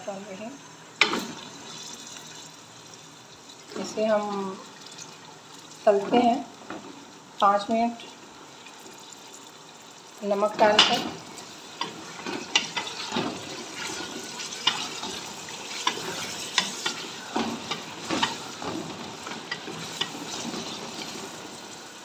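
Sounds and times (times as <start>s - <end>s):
meat sizzling in hot oil: 0.4s - 22.0s.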